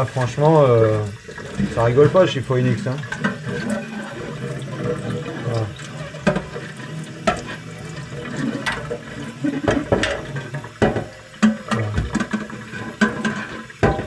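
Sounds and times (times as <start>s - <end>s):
tap water splashing: 0.0s - 14.0s.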